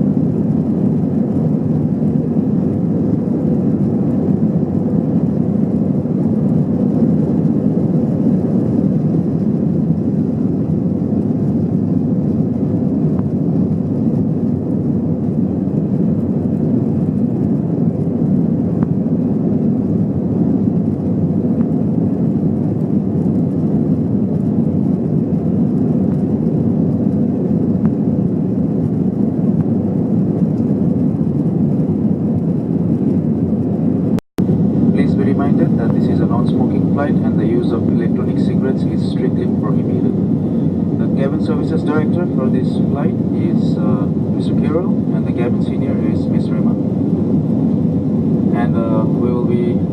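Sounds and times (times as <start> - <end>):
airliner cabin engine and airflow noise: 0.0 - 49.9.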